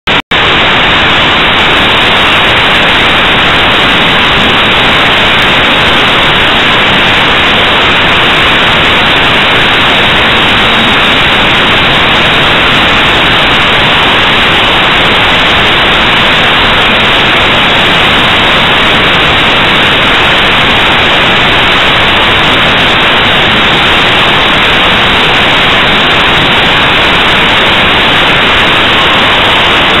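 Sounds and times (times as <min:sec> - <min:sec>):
static hiss: 0:00.1 - 0:30.0.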